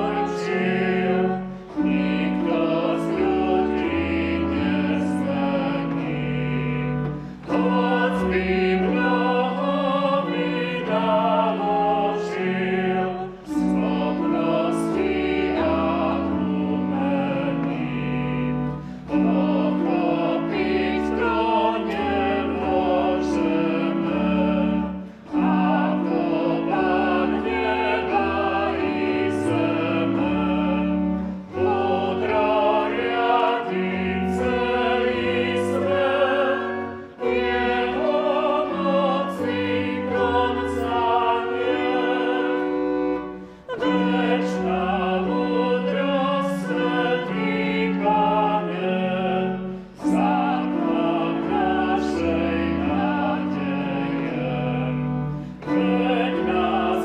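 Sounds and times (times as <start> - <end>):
church organ: 0.0 - 57.0
person singing a hymn: 0.0 - 57.0.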